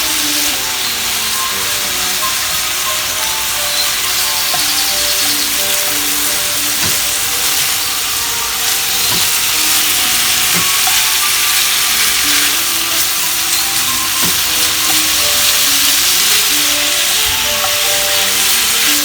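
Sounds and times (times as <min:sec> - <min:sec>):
steak sizzling in a frying pan: 0:00.0 - 0:19.0.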